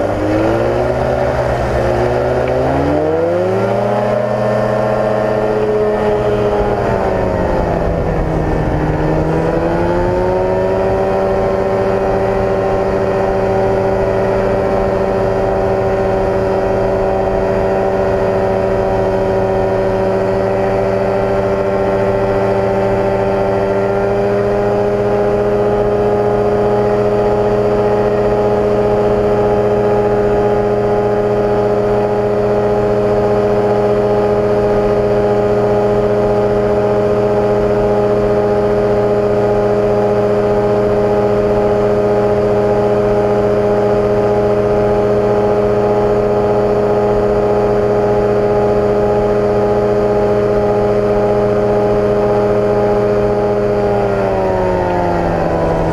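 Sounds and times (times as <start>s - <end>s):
microlight engine and propeller: 0.0s - 55.9s.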